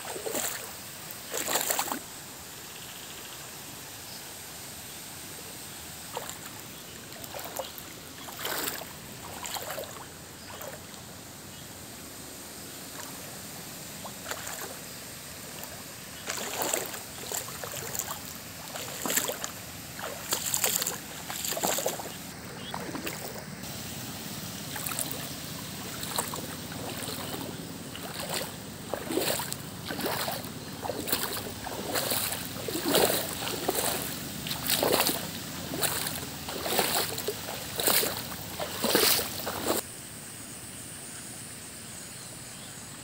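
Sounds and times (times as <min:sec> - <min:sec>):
water splashing rhythmically: 0:00.0 - 0:02.4, 0:05.9 - 0:11.6, 0:12.6 - 0:39.8
water rushing: 0:00.0 - 0:02.6, 0:04.8 - 0:39.8.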